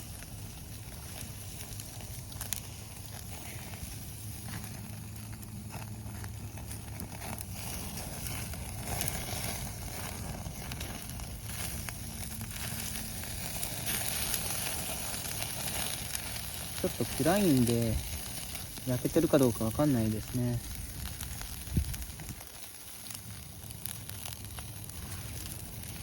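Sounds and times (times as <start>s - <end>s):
cabbage sizzling on grill: 0.0s - 26.0s
campfire crackling: 0.0s - 26.0s.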